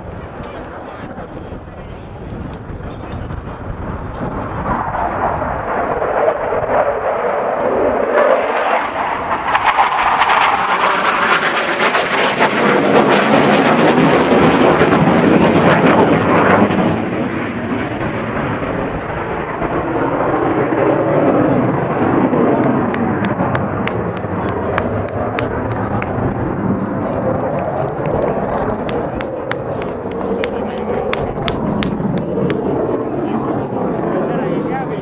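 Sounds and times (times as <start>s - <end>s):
jet engine roar with crackle: 0.0s - 35.0s.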